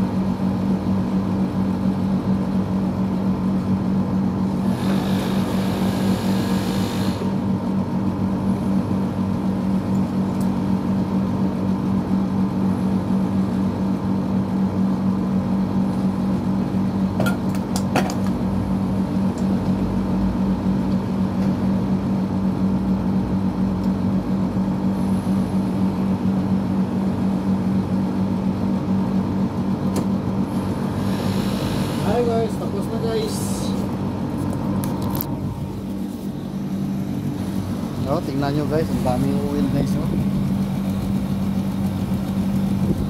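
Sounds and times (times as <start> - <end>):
air conditioner unit humming: 0.0 - 43.0.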